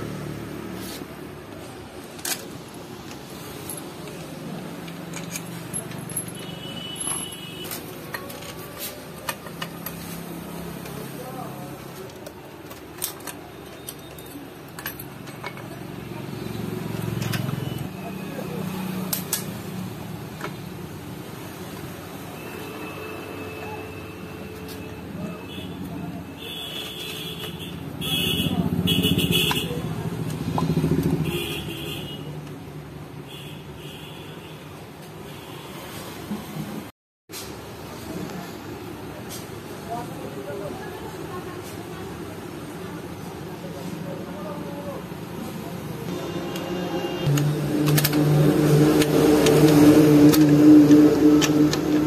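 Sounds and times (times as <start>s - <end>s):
steady background noise: 0.0s - 52.0s.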